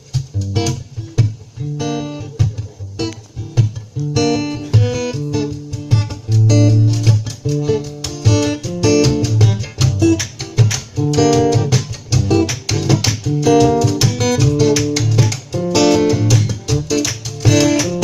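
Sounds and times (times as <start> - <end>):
plucked and strummed guitar: 0.0 - 18.0.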